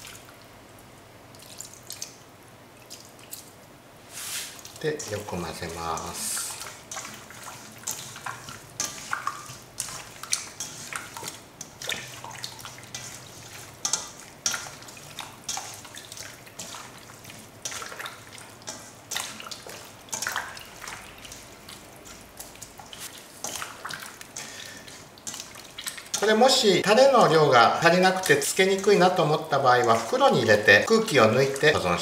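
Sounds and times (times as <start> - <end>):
hands kneading wet meat: 0.0 - 32.0.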